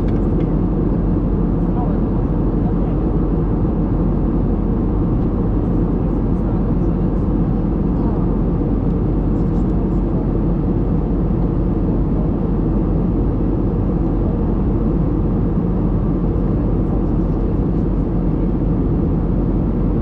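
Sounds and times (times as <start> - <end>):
airplane engines rumbling: 0.0 - 20.0.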